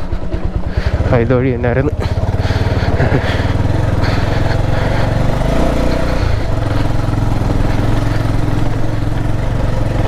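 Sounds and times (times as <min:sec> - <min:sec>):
motorcycle engine pulsing: 0:00.0 - 0:10.0.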